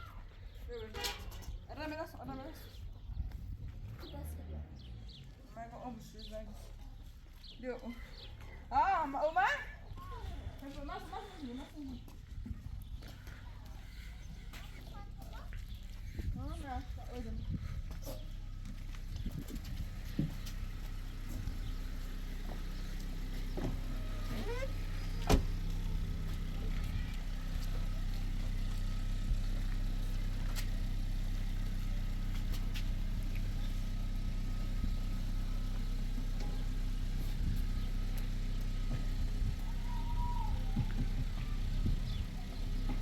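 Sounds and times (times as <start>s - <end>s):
low engine hum: 0.0s - 43.0s.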